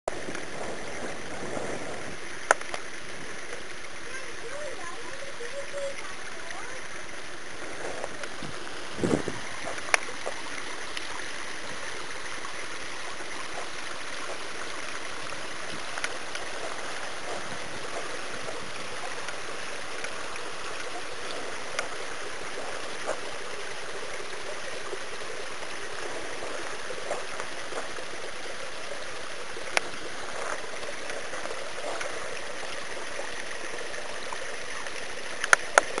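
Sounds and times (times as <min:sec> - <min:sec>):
water trickling over stones: 0:00.1 - 0:36.0.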